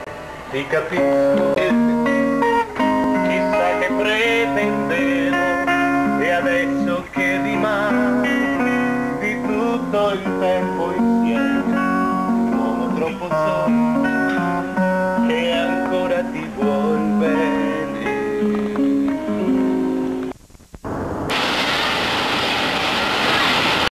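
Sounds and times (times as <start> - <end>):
strummed acoustic guitar music: 0.0 - 20.3.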